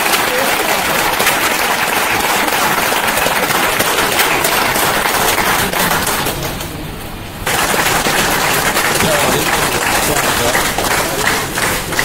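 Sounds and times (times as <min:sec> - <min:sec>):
audience applauding: 0:00.0 - 0:06.7, 0:07.4 - 0:12.0.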